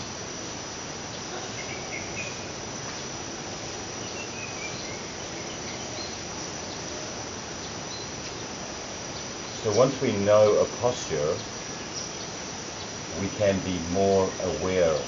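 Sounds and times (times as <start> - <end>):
insect trilling: 0.0 - 15.0.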